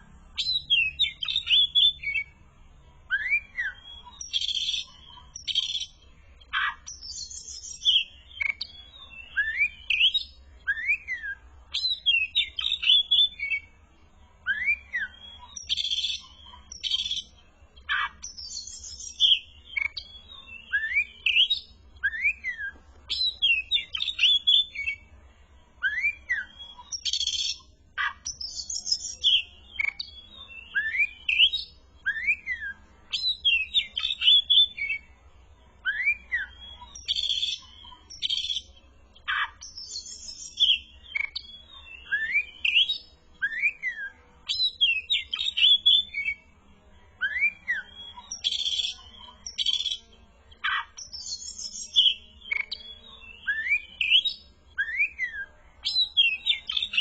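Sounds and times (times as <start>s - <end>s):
bird whistled song: 0.0s - 2.4s, 3.1s - 13.8s, 14.4s - 25.1s, 25.7s - 35.2s, 35.8s - 46.5s, 47.2s - 57.0s.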